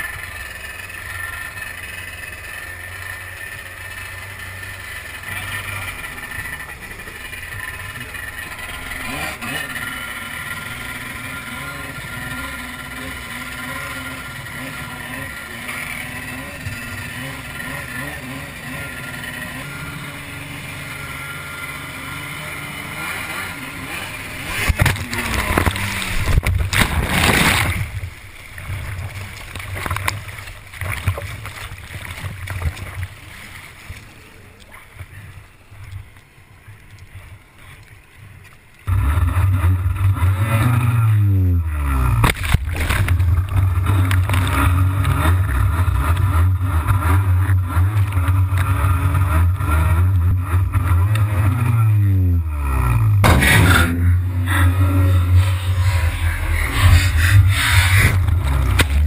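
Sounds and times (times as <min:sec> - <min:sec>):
water splashing: 0:00.0 - 0:38.9, 0:42.1 - 0:51.3, 0:53.2 - 0:59.0
jet ski engine: 0:00.0 - 0:59.0.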